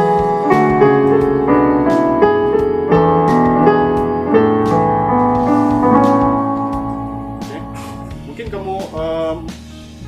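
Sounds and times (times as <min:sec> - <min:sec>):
keyboard piano melody: 0:00.0 - 0:09.5.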